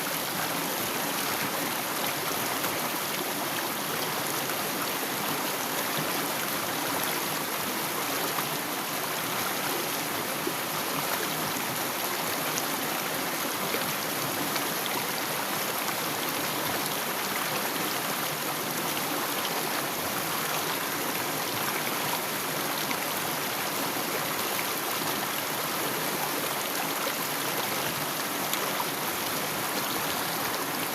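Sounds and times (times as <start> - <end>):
stream flowing over rocks: 0.0 - 30.9.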